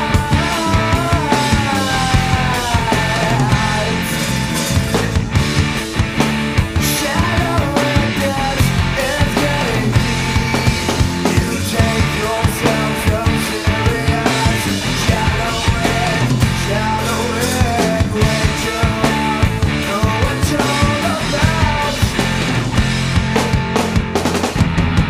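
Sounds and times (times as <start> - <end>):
busy drum beat: 0.0 - 25.0
rock band playing: 0.0 - 25.0.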